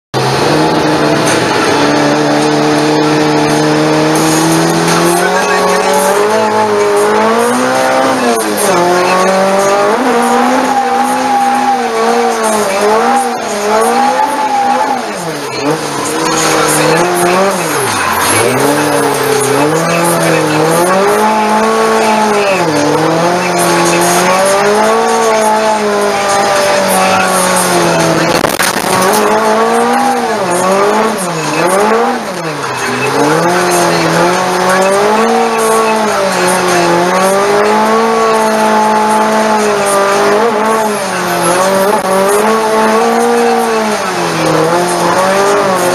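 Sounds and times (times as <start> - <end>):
car engine revving: 0.1 - 45.9.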